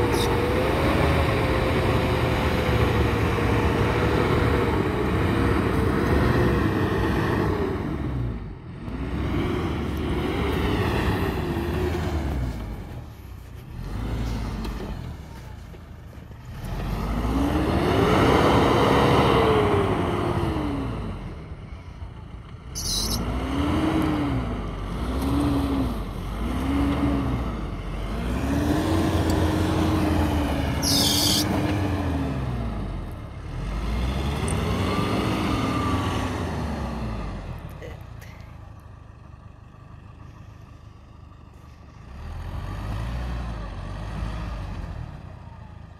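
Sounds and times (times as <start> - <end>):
diesel engine revving: 0.0 - 15.4, 16.3 - 45.9.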